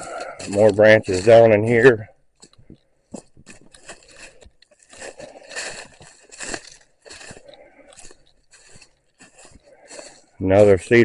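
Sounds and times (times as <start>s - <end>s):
footsteps crunching through branches: 0.0s - 11.0s.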